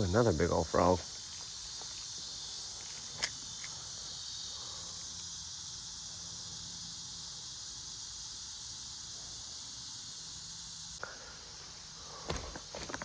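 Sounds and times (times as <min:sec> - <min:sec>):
insect chorus hum: 0:00.0 - 0:13.0.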